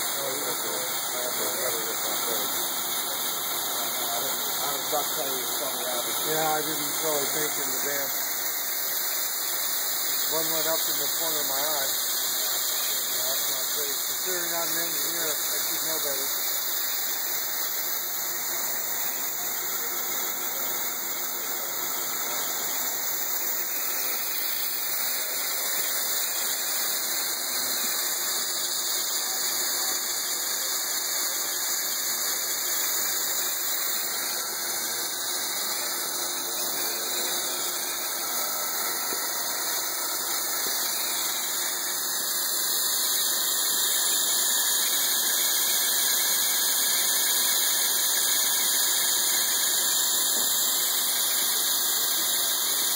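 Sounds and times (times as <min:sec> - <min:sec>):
milling machine cutting metal: 0:00.0 - 0:52.9.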